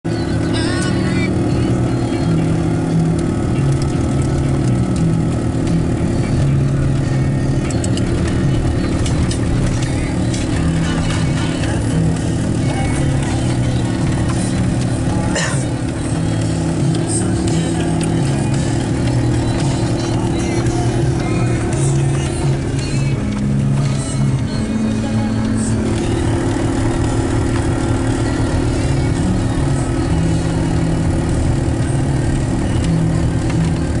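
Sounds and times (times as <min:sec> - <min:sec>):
vehicle engine drone: 0:00.0 - 0:34.0
low hum stepping in pitch: 0:00.3 - 0:34.0.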